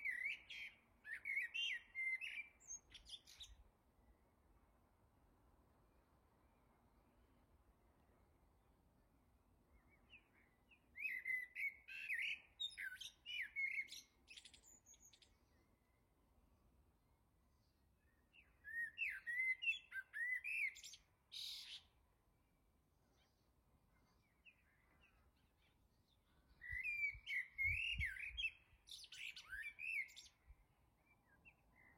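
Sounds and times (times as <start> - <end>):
songbird chirping: 0.0 - 31.9.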